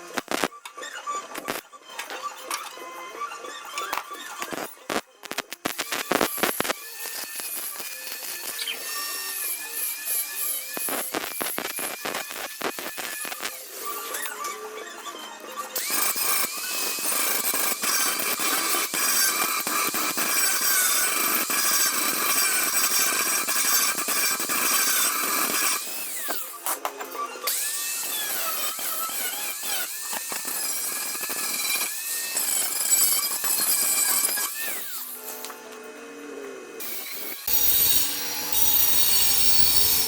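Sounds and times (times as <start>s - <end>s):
angle grinder grinding steel: 0.0s - 40.0s.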